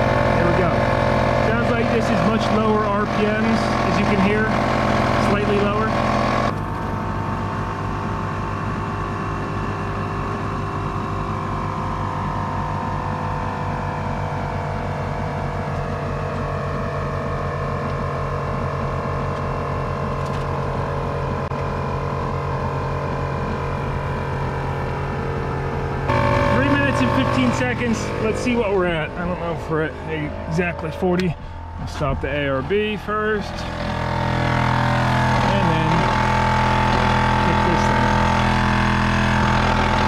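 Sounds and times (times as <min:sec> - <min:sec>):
air compressors running: 0:00.0 - 0:40.0.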